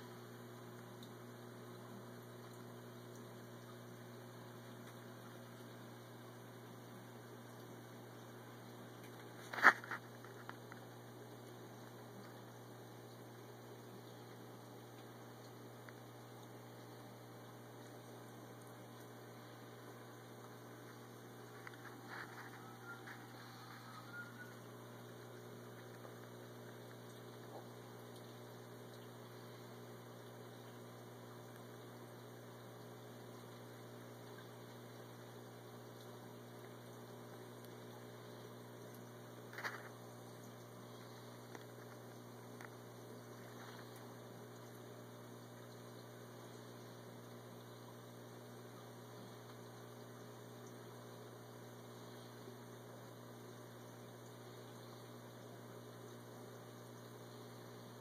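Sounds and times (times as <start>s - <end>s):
faint electrical hum: 0.0s - 58.0s.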